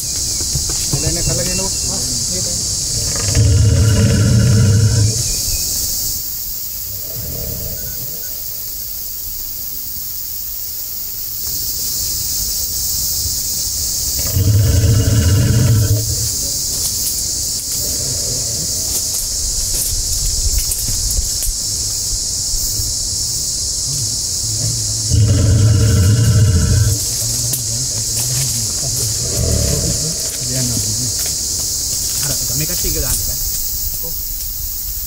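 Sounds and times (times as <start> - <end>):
forest insects buzzing: 0.0 - 35.0.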